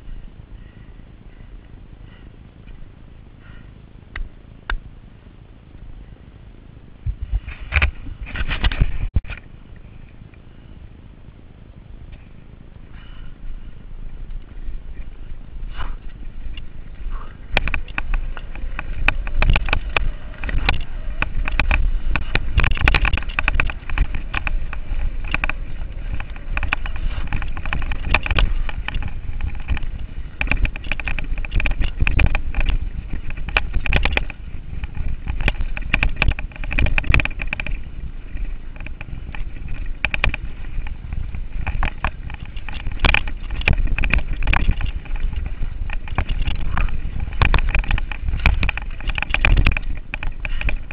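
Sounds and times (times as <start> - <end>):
tyres rumbling over dirt: 0.0 - 50.9
wind buffeting microphone: 0.0 - 50.9
bike rattling and knocking: 7.0 - 10.4, 11.3 - 50.9.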